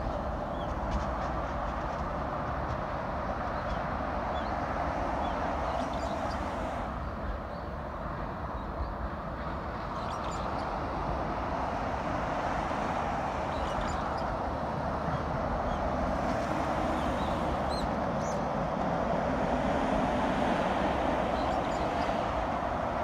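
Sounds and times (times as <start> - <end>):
expressway traffic noise: 0.0 - 23.0.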